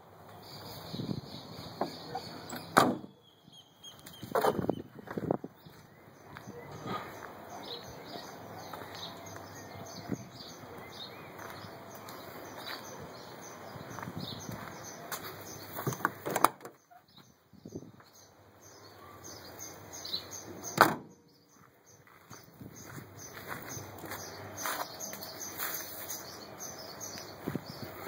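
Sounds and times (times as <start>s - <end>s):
outdoor background noise: 0.0s - 28.0s
small birds chirping: 0.2s - 28.0s.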